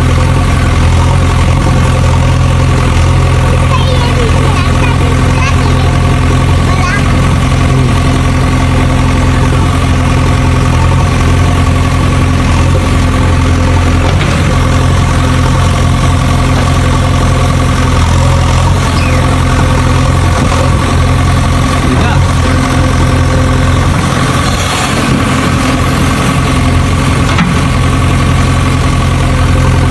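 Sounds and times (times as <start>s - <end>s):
tractor engine idling: 0.0s - 29.9s.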